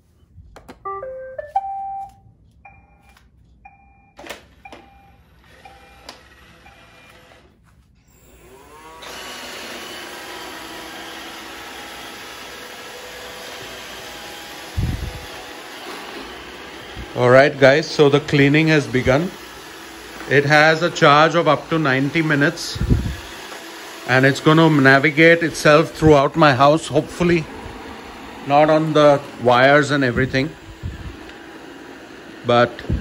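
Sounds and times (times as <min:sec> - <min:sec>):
robot vacuum motors whirring: 0:05.4 - 0:33.0.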